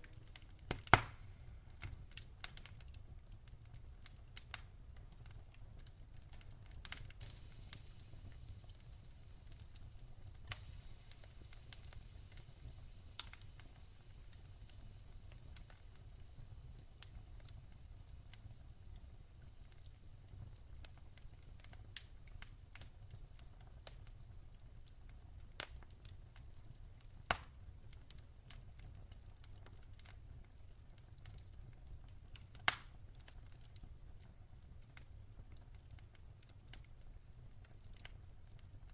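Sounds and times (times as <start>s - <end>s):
campfire crackles and pops: 0.0s - 38.9s
fire low rumble and hiss: 0.0s - 38.9s.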